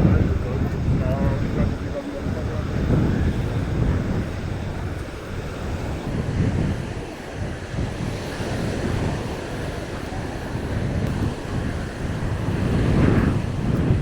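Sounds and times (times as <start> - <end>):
small waves breaking on shore: 0.0 - 14.0
wind buffeting microphone: 0.0 - 14.0.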